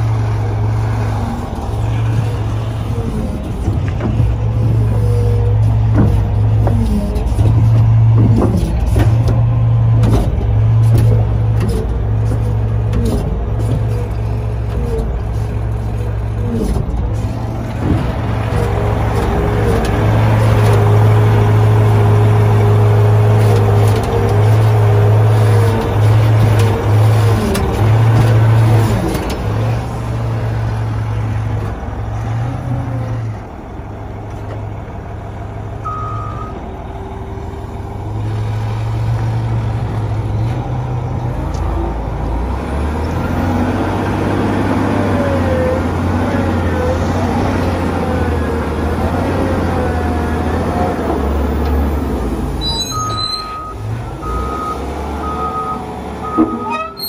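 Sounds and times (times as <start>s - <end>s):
diesel engine idling: 0.0s - 56.8s.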